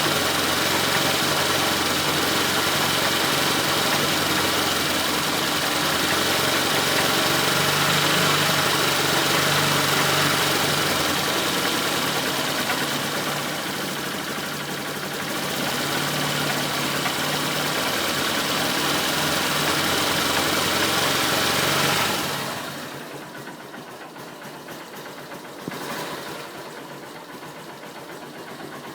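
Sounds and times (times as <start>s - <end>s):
engine running: 0.0s - 28.9s.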